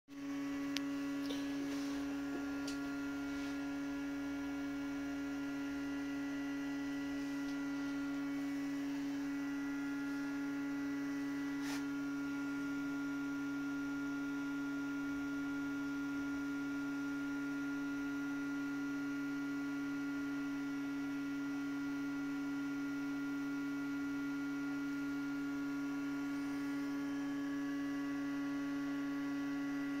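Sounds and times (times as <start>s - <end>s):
electrical hum: 0.1s - 30.0s.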